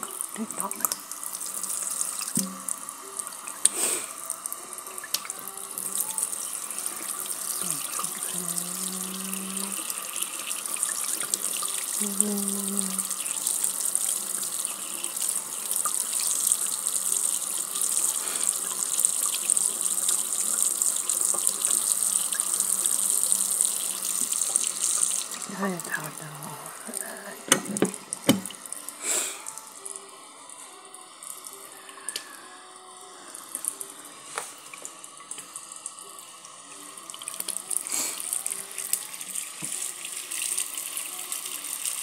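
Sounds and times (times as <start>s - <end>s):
tap water running into sink: 0.0s - 29.0s, 33.5s - 36.1s, 37.0s - 42.0s.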